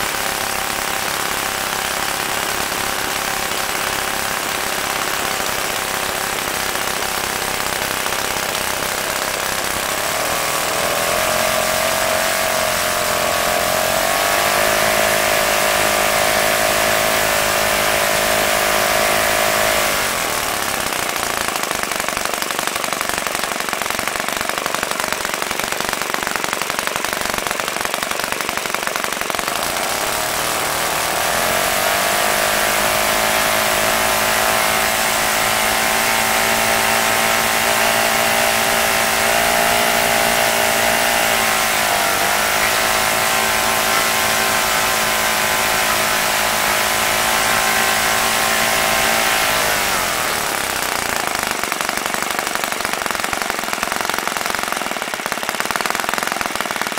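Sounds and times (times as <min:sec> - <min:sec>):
model airplane engine running: 0:00.0 - 0:56.9.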